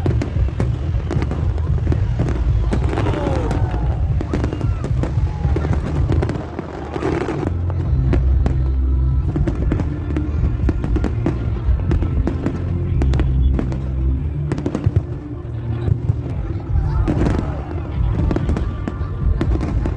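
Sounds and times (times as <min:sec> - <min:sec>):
fireworks popping and crackling: 0:00.0 - 0:19.9
loud music with heavy bass: 0:00.0 - 0:19.9.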